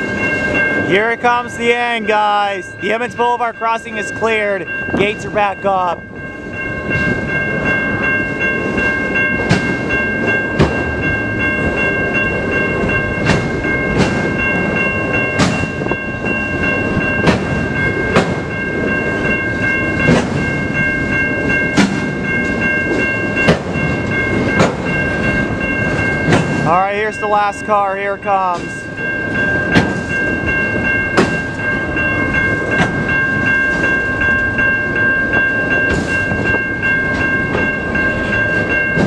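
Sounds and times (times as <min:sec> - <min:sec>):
freight train cars rumbling: 0:00.0 - 0:39.0
high ringing tone: 0:00.0 - 0:39.0.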